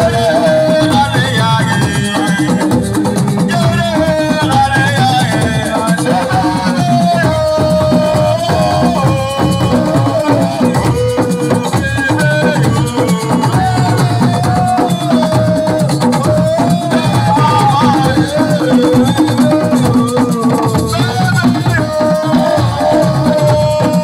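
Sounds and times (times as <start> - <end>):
dense drumming and hand percussion: 0.0 - 24.0.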